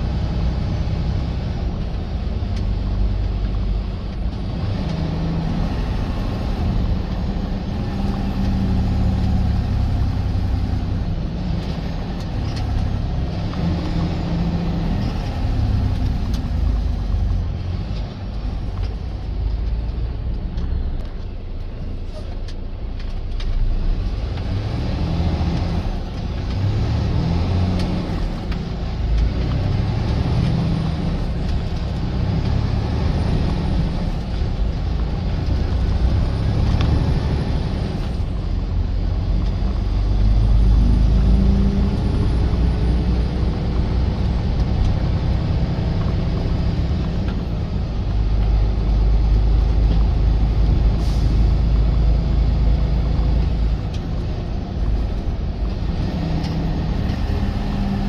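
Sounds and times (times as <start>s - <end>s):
road noise: 0.0s - 58.0s
truck engine rumbling: 0.0s - 58.0s.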